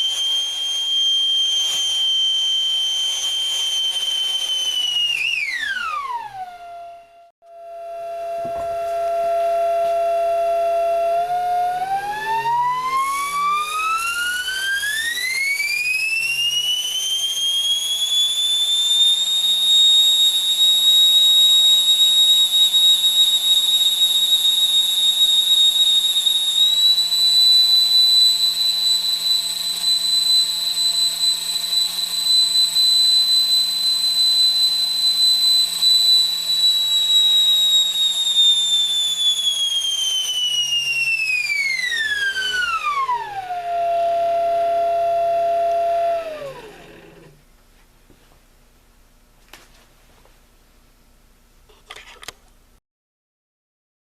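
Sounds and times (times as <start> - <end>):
electric jet high-pitched whine: 0.0 - 47.4.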